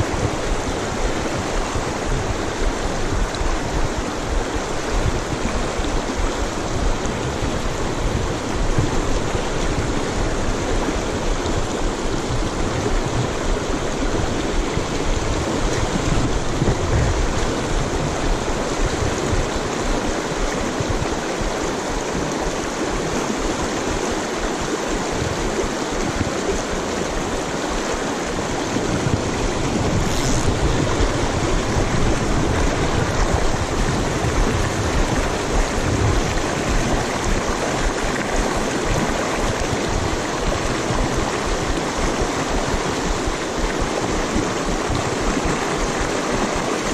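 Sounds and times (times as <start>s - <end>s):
river rushing over cobbles: 0.0s - 46.9s.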